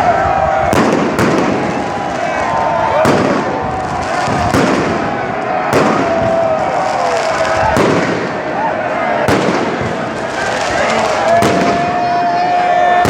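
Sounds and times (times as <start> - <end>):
firework bangs: 0.0 - 12.4
people shouting: 0.0 - 13.0.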